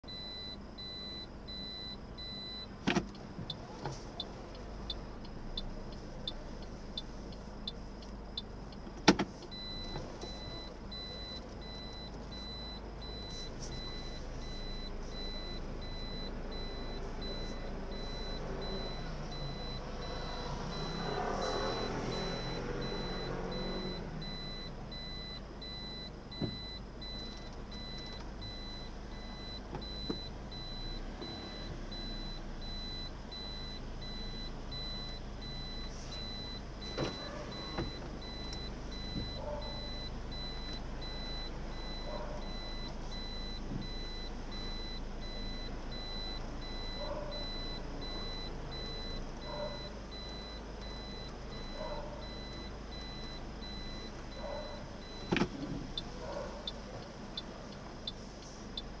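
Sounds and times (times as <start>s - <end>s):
low vehicle hum: 0.0s - 59.0s
high reversing beep: 0.1s - 2.8s, 9.5s - 55.4s.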